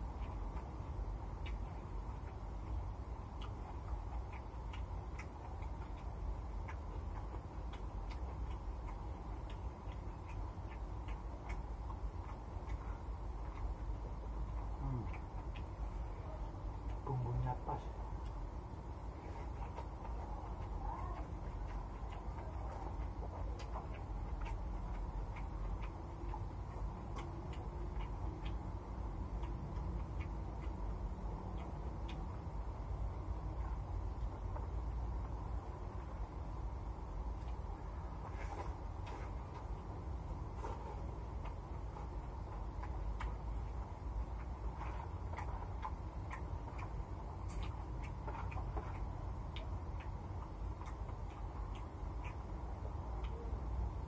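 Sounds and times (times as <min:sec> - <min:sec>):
low steady hum: 0:00.0 - 0:54.0
wet chewing and lip smacks: 0:00.0 - 0:54.0.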